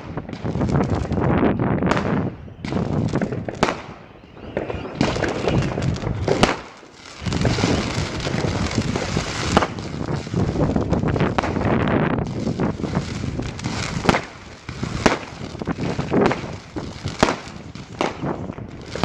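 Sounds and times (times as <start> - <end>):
fireworks bangs: 0.0 - 19.0
fireworks crackling and popping: 0.0 - 19.0.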